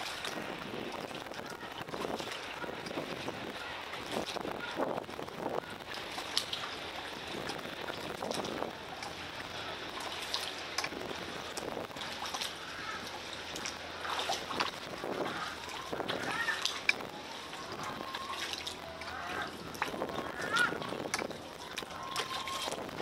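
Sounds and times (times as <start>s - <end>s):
paddle splashes: 0.0s - 23.0s
water splashing and dripping: 0.0s - 23.0s.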